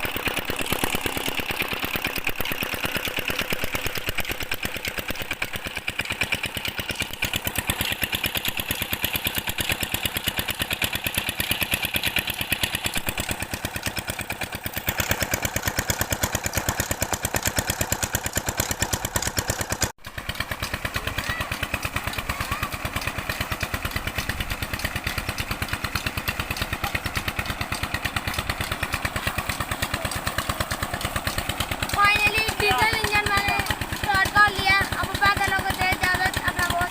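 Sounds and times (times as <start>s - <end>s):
diesel water pump engine: 0.0s - 36.9s.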